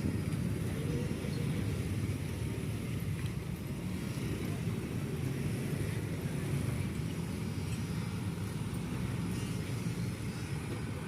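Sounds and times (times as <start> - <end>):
vehicle rumble: 0.0 - 11.0.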